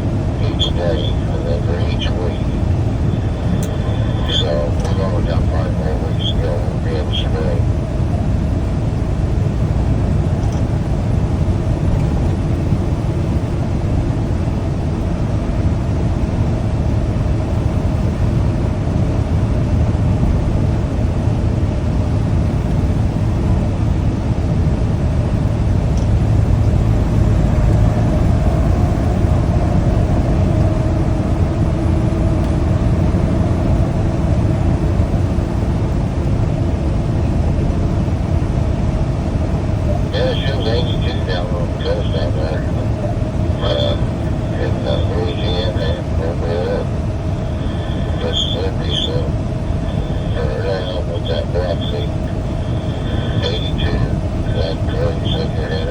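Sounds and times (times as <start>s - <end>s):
road noise: 0.0s - 13.8s, 24.5s - 55.9s
truck engine drone: 0.0s - 55.9s.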